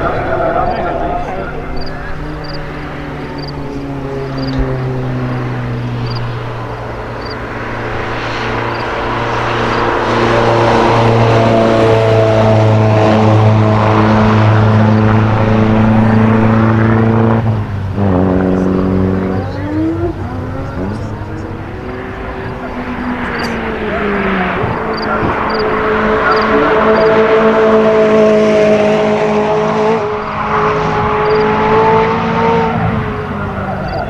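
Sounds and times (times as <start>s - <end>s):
sports car engine running: 0.0s - 34.0s.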